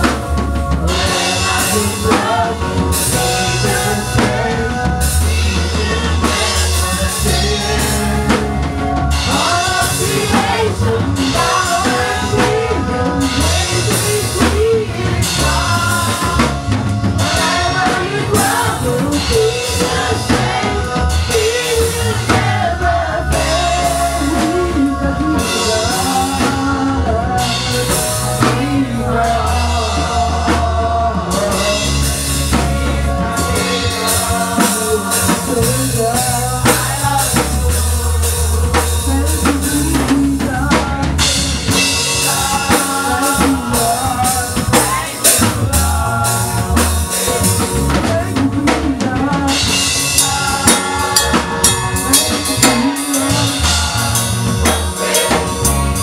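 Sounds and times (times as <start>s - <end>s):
choir singing praise song: 0.0s - 56.0s
drum kit: 0.0s - 56.0s
lead singer on microphone: 0.0s - 56.0s
low bass line: 0.0s - 56.0s.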